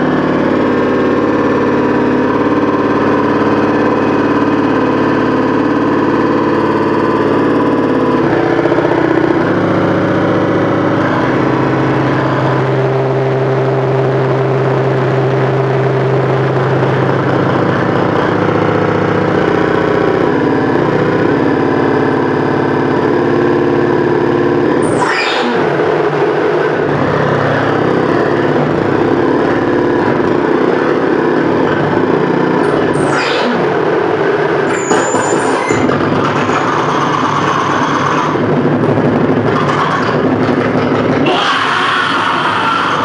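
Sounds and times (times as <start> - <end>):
dense drone of layered tones: 0.0 - 43.0.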